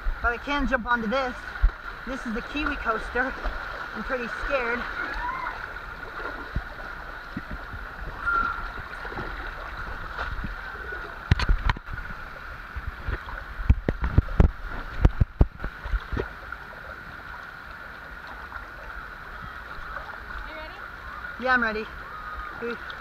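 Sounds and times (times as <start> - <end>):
water running down waterslide: 0.2 - 23.0.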